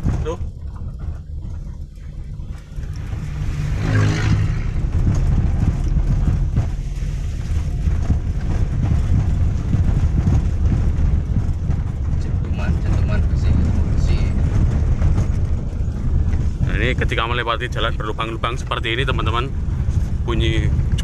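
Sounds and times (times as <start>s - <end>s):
car cabin rumble: 0.0s - 21.0s
suspension knocking: 0.0s - 21.0s.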